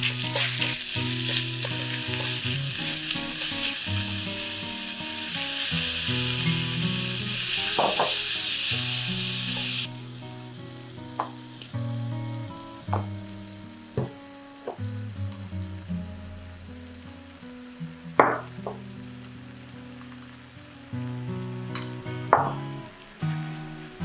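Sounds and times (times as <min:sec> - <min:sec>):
meat sizzling in a wok: 0:00.0 - 0:24.0.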